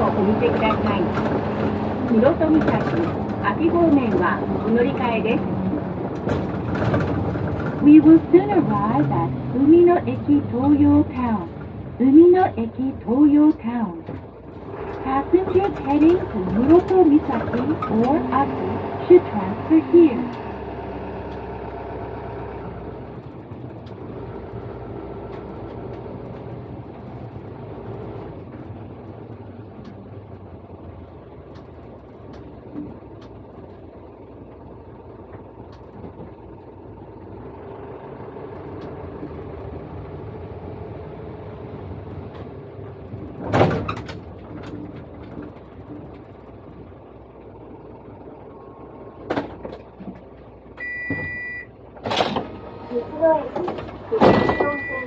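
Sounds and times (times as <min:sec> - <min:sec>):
vehicle engine and road hum: 0:00.0 - 0:55.0.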